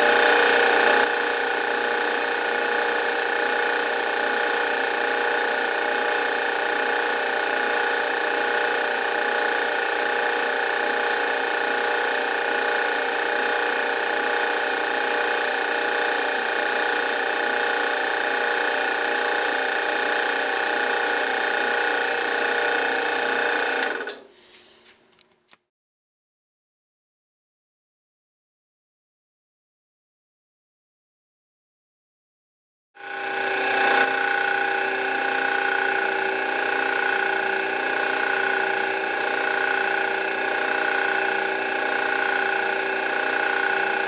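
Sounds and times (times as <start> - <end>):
drill press drilling metal: 0.0 - 24.3, 33.0 - 44.0.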